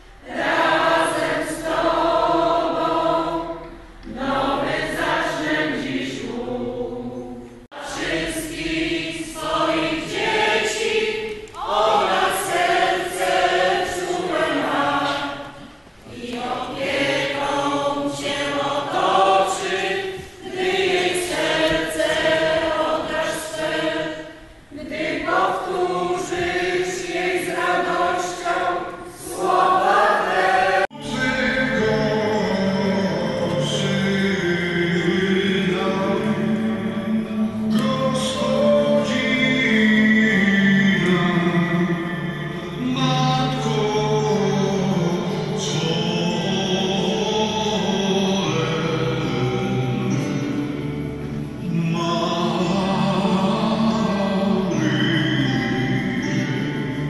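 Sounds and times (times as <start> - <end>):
choir and congregation singing hymn: 0.0 - 57.0.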